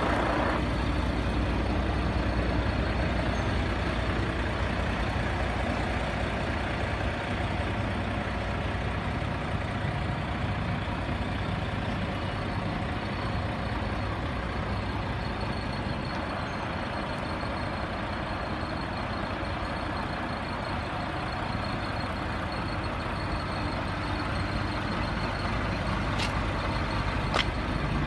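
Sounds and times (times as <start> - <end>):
diesel truck engine idling: 0.0 - 28.0.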